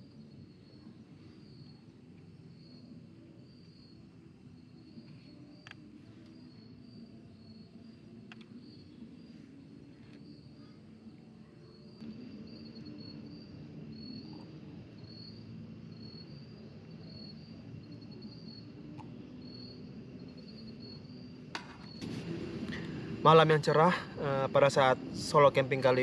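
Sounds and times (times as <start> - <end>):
crickets chirping: 0.0 - 26.0
steady low hum: 0.0 - 26.0.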